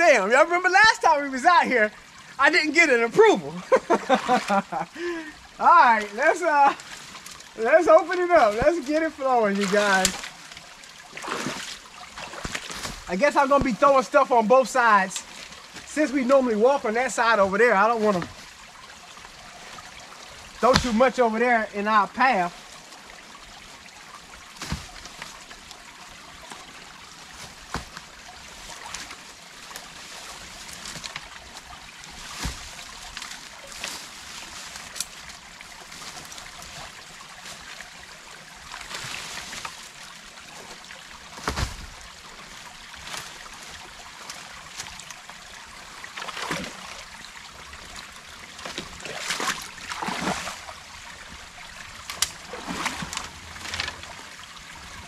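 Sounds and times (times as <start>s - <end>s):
water trickling through dam: 0.0s - 55.0s
splashes and knocks of sticks: 3.8s - 4.9s, 5.8s - 13.9s, 17.2s - 21.4s, 22.6s - 55.0s.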